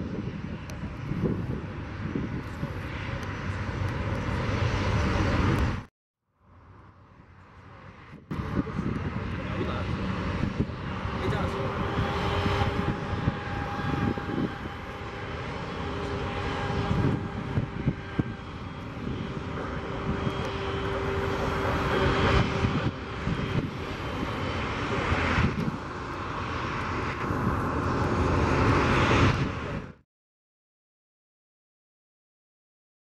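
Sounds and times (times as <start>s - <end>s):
jet engines running: 0.0s - 5.9s, 6.6s - 30.0s.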